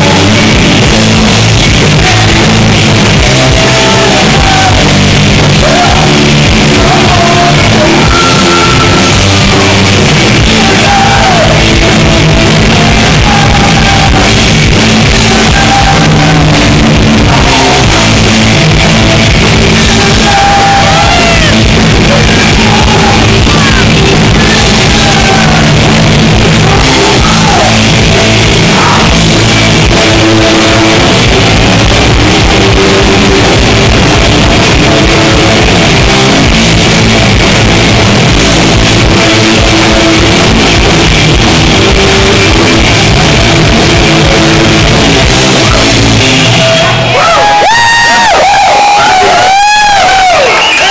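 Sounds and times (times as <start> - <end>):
person shouting and singing: 0.0 - 50.5
electric guitar: 0.0 - 50.9
rock band playing loudly: 0.0 - 50.9.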